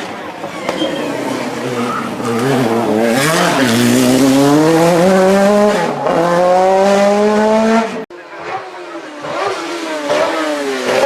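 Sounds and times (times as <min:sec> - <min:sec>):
race car engine accelerating: 0:00.6 - 0:11.0.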